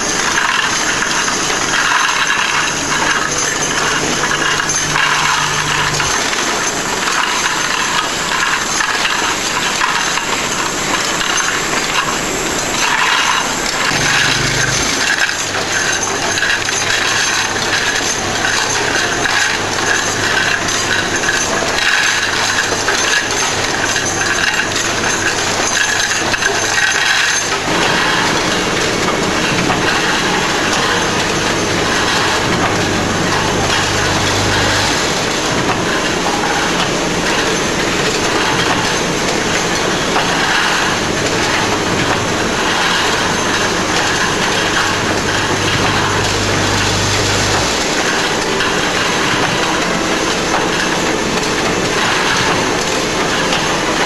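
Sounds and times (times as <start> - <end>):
machinery clatter and rattle: 0.0 - 54.0.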